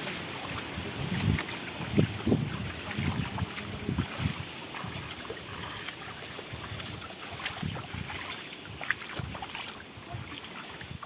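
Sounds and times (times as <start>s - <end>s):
footsteps splashing in water: 0.0s - 11.0s
moving water hiss: 0.0s - 11.0s.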